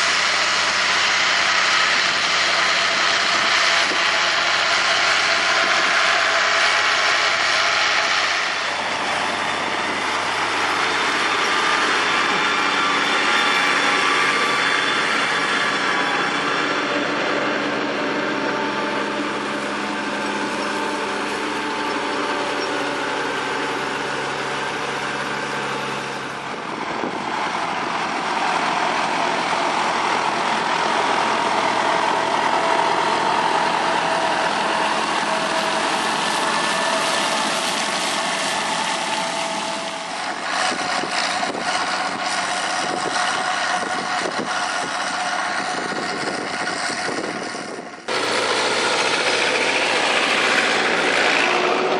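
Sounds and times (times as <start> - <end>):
farm machinery engine running: 0.0 - 51.9.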